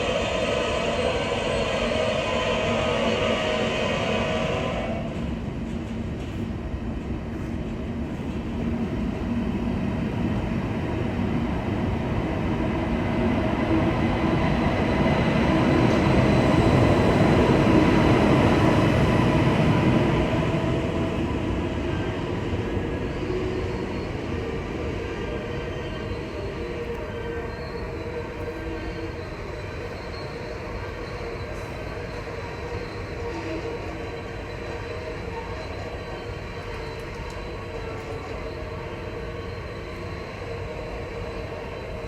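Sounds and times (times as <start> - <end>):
train rail rumble: 0.0 - 42.0.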